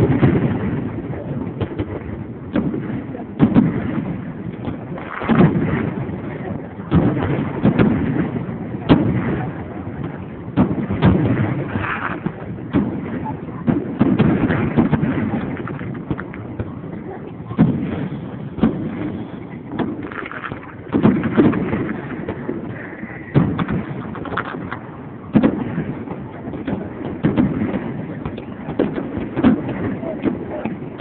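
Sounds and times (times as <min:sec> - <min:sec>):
fireworks bangs echoing: 0:00.0 - 0:31.0.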